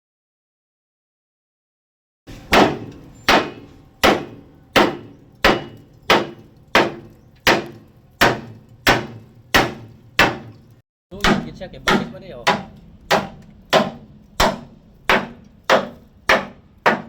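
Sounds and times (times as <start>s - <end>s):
hammer striking steel frame: 2.3s - 17.0s.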